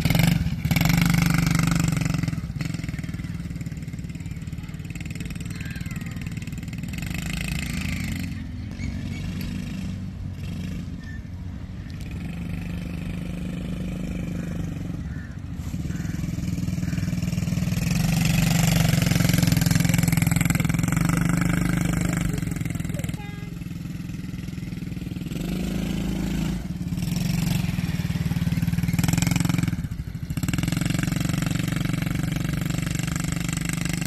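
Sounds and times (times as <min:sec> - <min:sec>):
quad bike engine running: 0:00.0 - 0:34.0.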